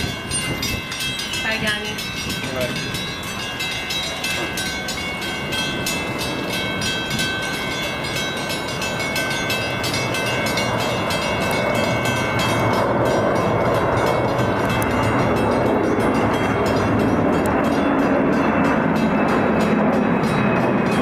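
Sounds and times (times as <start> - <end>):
steady high ringing tones: 0.0 - 21.0
train approaching: 0.0 - 21.0.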